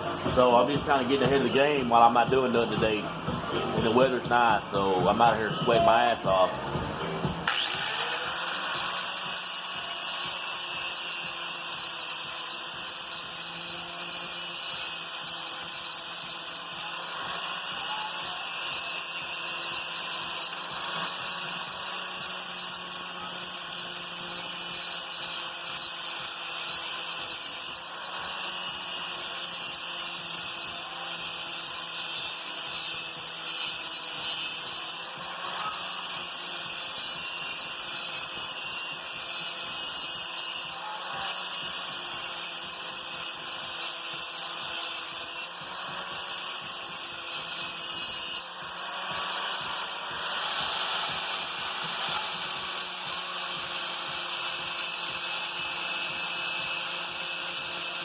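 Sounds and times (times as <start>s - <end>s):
electric grinder on steel blade: 0.0s - 58.0s.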